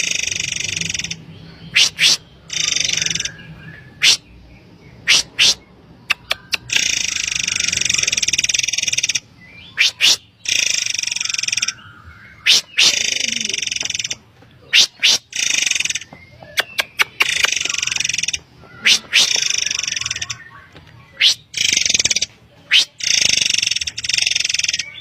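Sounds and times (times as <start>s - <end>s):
bird calls with buzzy trills: 0.0s - 25.0s.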